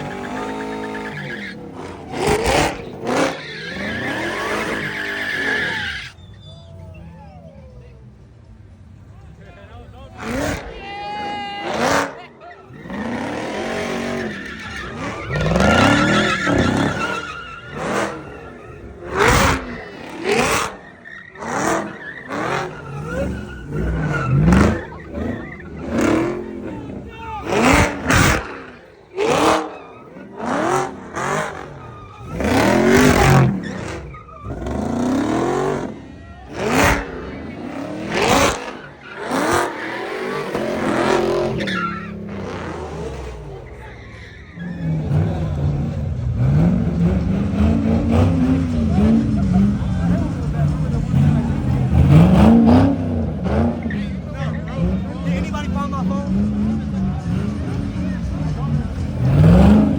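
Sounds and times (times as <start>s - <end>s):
car engine revving: 0.0s - 59.9s
tyres spinning and squealing: 0.0s - 59.9s.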